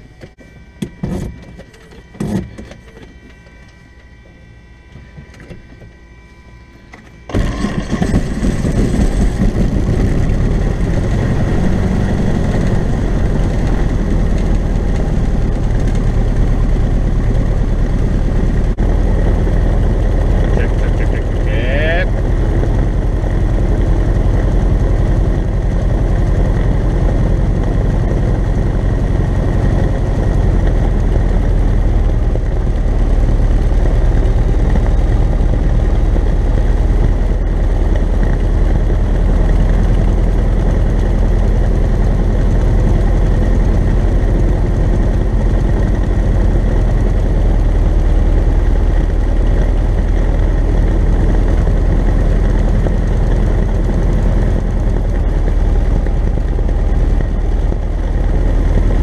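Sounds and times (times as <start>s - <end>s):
aircraft engine idling: 0.0s - 59.0s.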